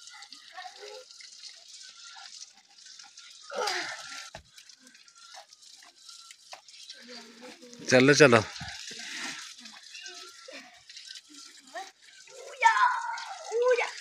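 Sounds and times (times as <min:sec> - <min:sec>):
water dripping: 0:00.0 - 0:14.0
water running from spout: 0:00.0 - 0:14.0.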